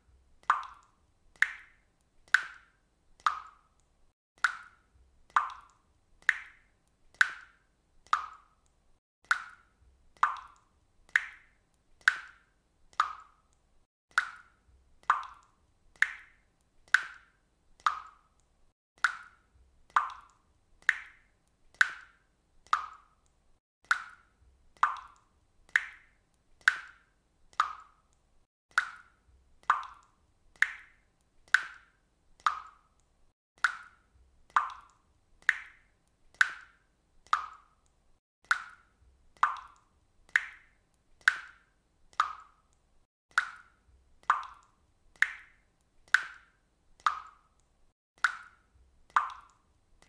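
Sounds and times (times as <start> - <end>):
water dripping from faucet: 0.1 - 50.0.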